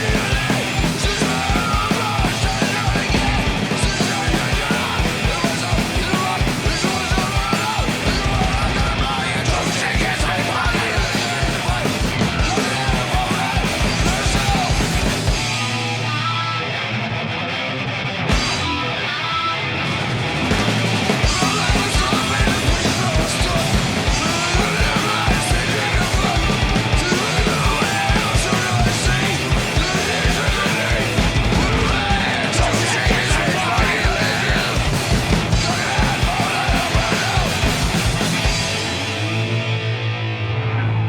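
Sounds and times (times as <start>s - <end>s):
punk rock band playing: 0.0s - 41.0s.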